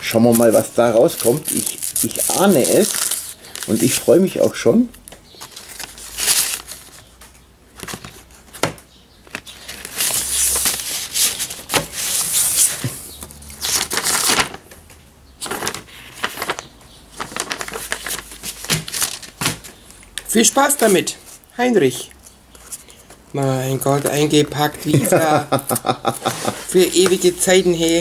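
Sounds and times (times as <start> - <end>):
paper and envelope rustling: 0.0 - 14.7, 15.4 - 21.4, 22.6 - 28.0.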